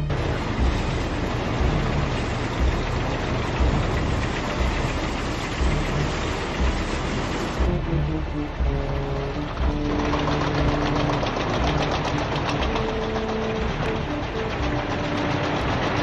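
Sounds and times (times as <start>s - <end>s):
tracked vehicles rumbling past: 0.0s - 16.0s.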